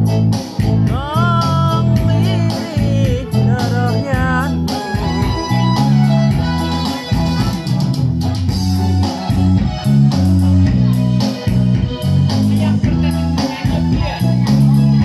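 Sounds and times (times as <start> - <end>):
loud music with guitar and bass: 0.0 - 15.0.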